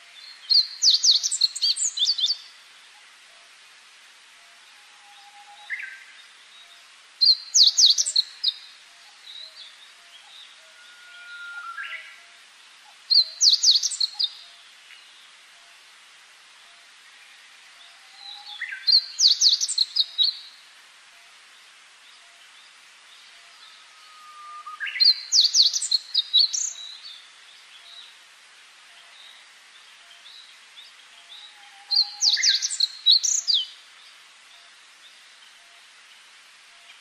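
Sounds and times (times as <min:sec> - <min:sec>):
faint steady hiss: 0:00.0 - 0:37.0
songbird singing: 0:00.0 - 0:37.0.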